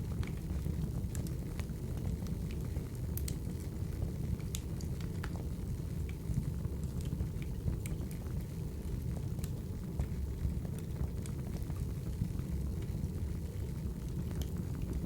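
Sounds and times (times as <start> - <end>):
wood fire rumbling: 0.0 - 15.0
fire pops and crackles: 0.1 - 15.0.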